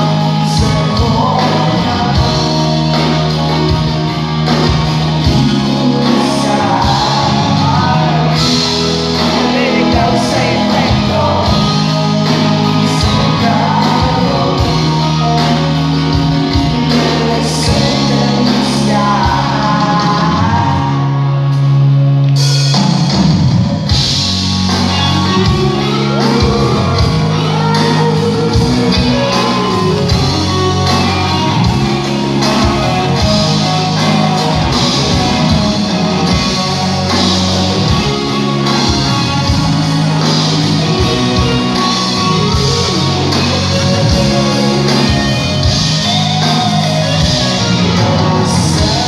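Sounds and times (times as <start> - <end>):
people singing and shouting: 0.0 - 21.8, 23.9 - 49.0
live rock band playing: 0.0 - 49.0.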